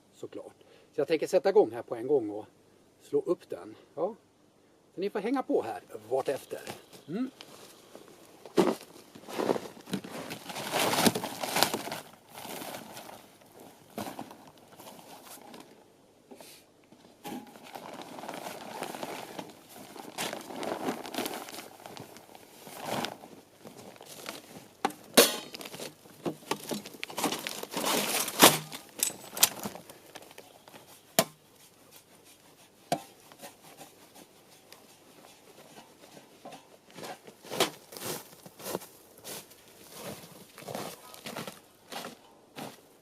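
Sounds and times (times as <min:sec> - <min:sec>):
tent fabric rustling: 0:06.4 - 0:15.8, 0:17.0 - 0:42.8.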